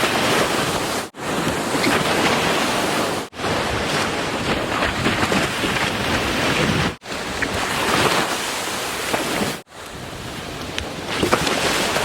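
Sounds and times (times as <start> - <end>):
ocean surf washing: 0.0 - 12.0
wind buffeting microphone: 0.0 - 12.0.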